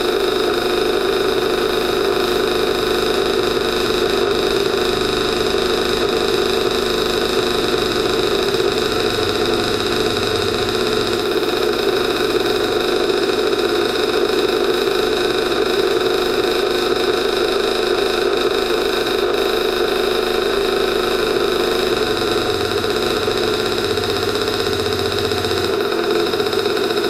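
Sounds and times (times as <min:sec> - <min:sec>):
two-stroke engine idling: 0:00.0 - 0:27.0.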